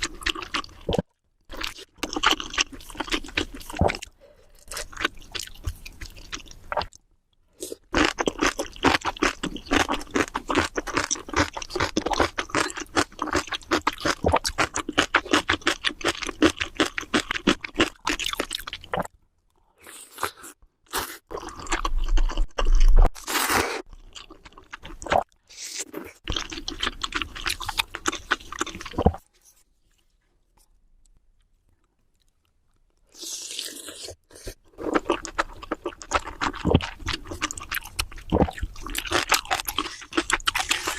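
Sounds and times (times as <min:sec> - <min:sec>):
chewing crunchy food: 0:00.0 - 0:30.0, 0:30.6 - 0:40.9.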